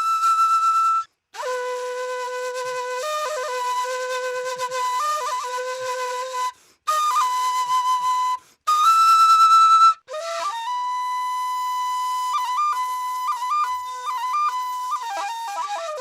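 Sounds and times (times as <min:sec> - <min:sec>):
bamboo flute playing: 0:00.0 - 0:16.0.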